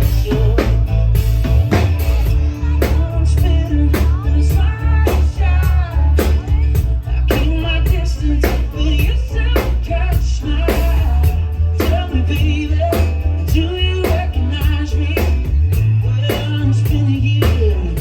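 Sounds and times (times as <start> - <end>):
heavy bass: 0.0 - 18.0
live pop-rock band: 0.0 - 18.0
person singing: 0.0 - 18.0
steady drum beat: 0.0 - 18.0.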